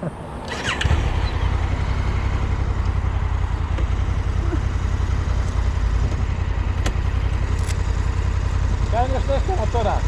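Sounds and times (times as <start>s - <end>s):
motorcycle engine idling: 0.5s - 10.0s.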